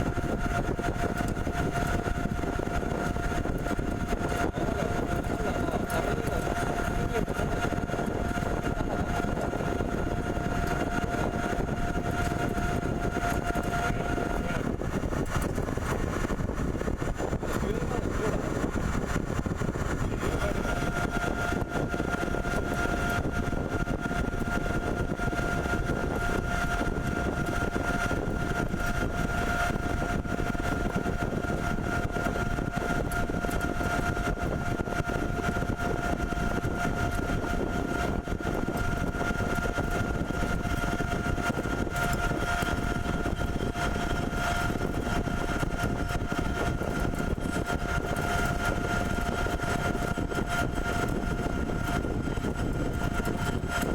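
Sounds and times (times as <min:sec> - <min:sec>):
high machine whine: 0:00.0 - 0:53.9
pipe threading machine running: 0:00.0 - 0:53.9.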